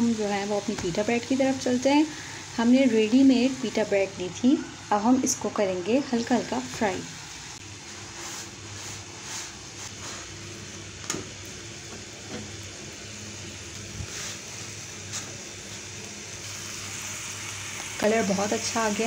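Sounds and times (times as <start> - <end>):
bread sizzling on griddle: 0.0 - 19.0.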